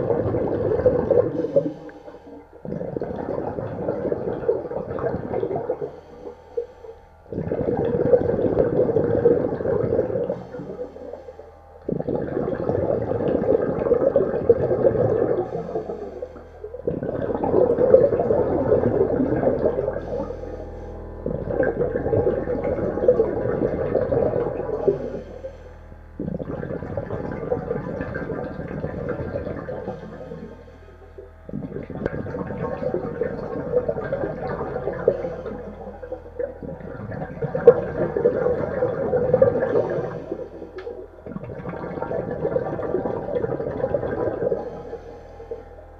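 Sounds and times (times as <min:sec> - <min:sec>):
steady low hum: 0:00.0 - 0:45.9
underwater air bubbling: 0:00.0 - 0:45.9.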